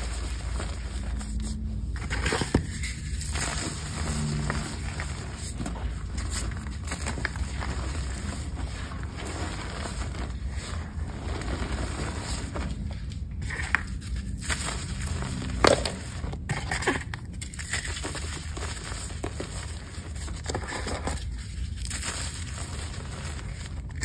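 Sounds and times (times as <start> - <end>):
hands crushing powdery blocks: 0.0 - 24.0.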